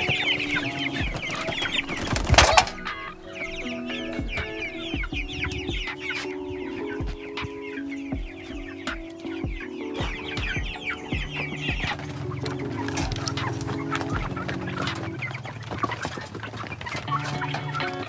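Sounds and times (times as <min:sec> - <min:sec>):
background music with steady beat: 0:00.0 - 0:18.0
chicks cheeping: 0:00.0 - 0:18.0.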